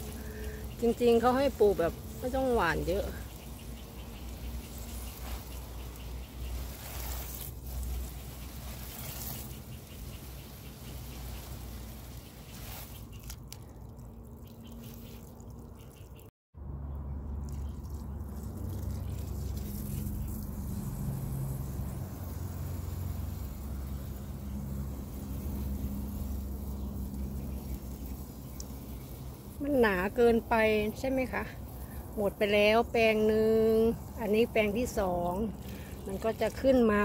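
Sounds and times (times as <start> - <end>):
hose nozzle spraying water: 0.0 - 16.2, 17.4 - 37.0.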